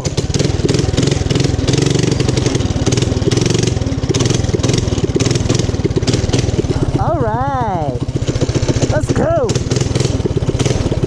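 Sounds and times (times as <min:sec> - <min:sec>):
small gas engine running: 0:00.0 - 0:11.0.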